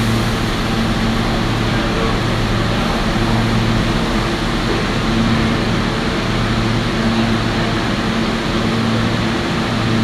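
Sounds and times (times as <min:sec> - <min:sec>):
train air-conditioning rush and hum: 0:00.0 - 0:10.0.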